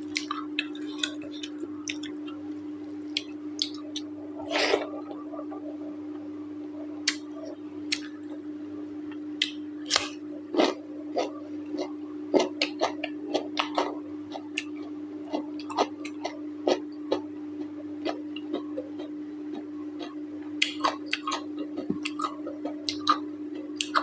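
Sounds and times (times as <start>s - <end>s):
person chewing food: 0.0s - 5.1s, 7.0s - 8.4s, 9.4s - 24.0s
steady low hum: 0.0s - 24.0s.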